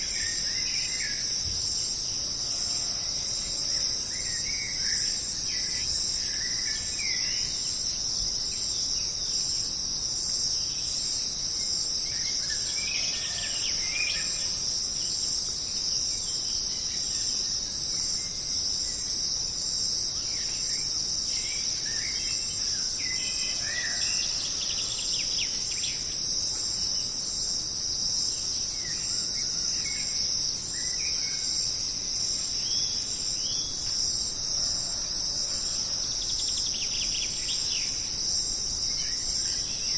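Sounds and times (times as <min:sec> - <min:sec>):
chorus of insects: 0:00.0 - 0:39.9.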